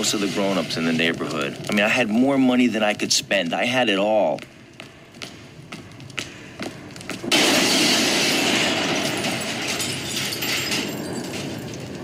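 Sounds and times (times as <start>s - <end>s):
flames rushing: 0.0s - 10.1s.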